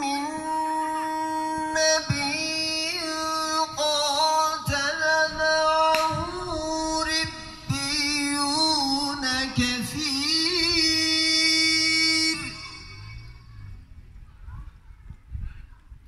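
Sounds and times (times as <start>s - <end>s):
person chanting recitation: 0.0s - 13.6s.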